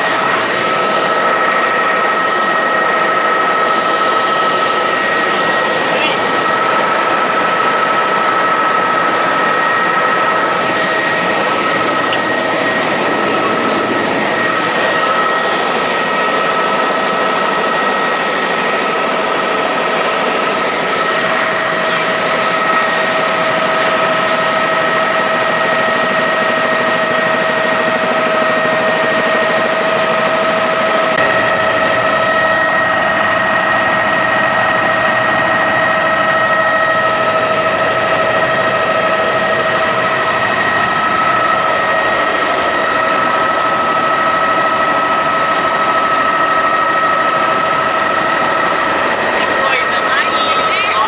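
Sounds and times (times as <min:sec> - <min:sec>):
helicopter in flight: 0:00.0 - 0:51.0.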